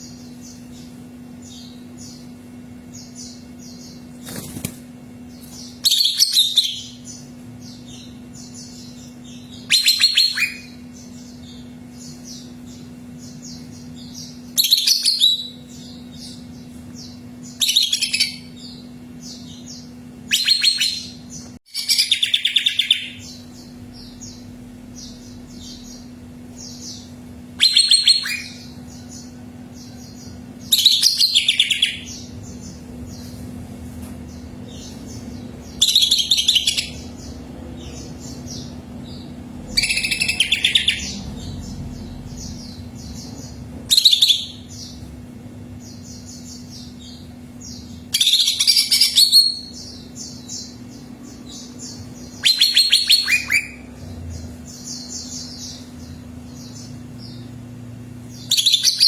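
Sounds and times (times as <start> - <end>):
bird song stuttering phrases: 0.0 - 59.0
soft high bird chirps: 5.4 - 33.4, 34.3 - 45.1, 45.9 - 57.6, 58.3 - 59.0.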